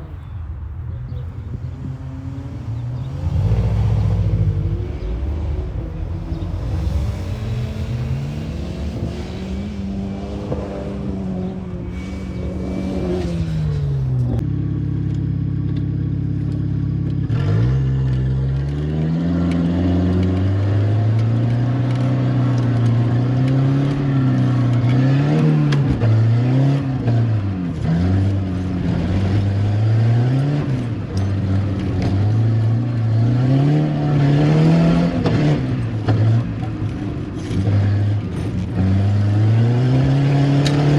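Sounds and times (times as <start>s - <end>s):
turbocharged car engine revving: 0.0s - 40.9s.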